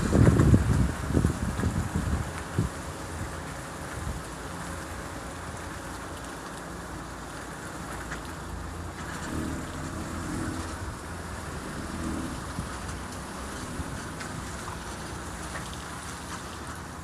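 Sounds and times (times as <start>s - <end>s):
car road and tyre noise: 0.0s - 17.0s.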